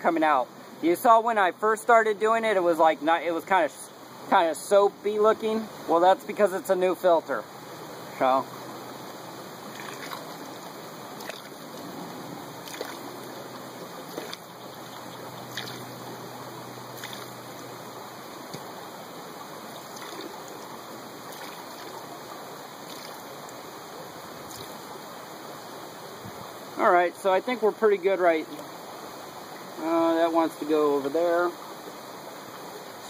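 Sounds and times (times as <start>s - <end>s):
stream water running: 0.0s - 33.0s.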